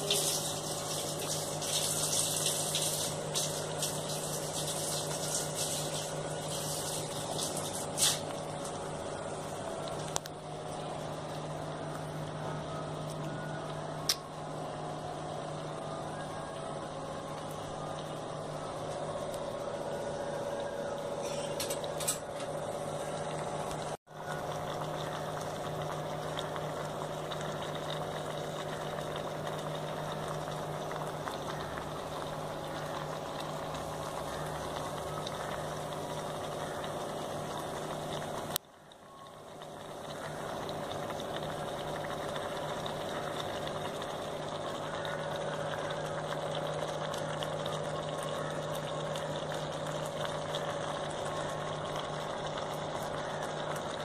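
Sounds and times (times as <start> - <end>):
curry bubbling: 0.0 - 54.0
gas burner hum and hiss: 0.0 - 54.0.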